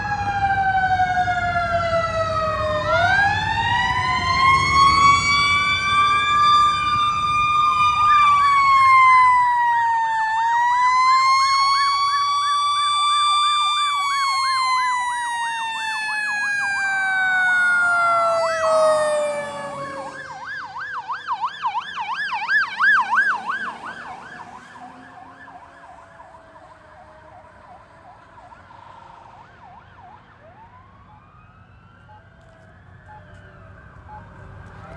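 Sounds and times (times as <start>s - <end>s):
rapid yelp siren: 0.0s - 28.8s, 29.4s - 34.9s
wailing sirens: 0.0s - 34.9s.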